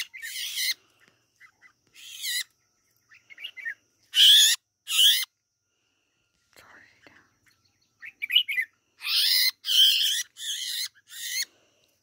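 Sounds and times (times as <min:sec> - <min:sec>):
bird chirps: 0:00.0 - 0:05.4, 0:06.6 - 0:11.6
harsh bird distress calls: 0:00.0 - 0:05.4, 0:07.4 - 0:11.7.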